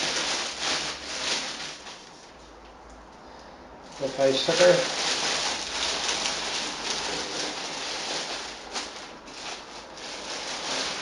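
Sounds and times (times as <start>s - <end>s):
plastic bag rustling: 0.0s - 2.7s, 3.8s - 11.0s.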